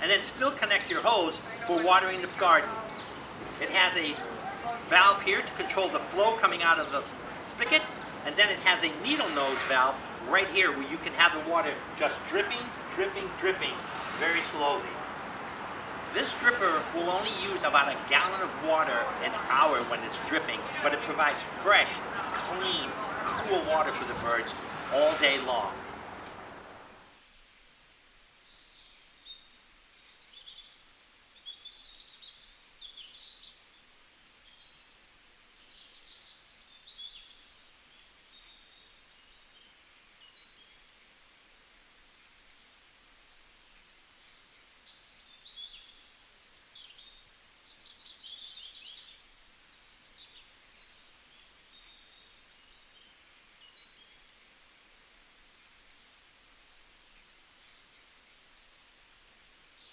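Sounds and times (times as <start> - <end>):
faint outdoor background noise: 0.0 - 59.9
songbirds chirping: 0.0 - 59.9.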